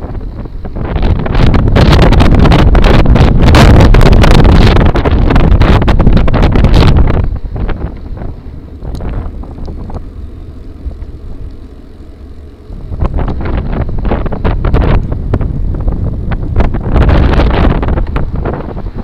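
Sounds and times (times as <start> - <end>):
bike rattles and knocks: 0.0 - 19.0
wind buffeting microphone: 0.0 - 19.0.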